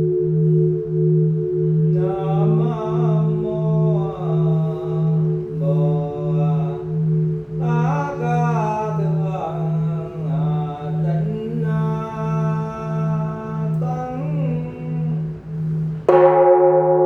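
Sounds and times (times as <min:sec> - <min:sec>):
person chanting a melody: 0:00.0 - 0:16.5
pulsing low drone: 0:00.0 - 0:17.0.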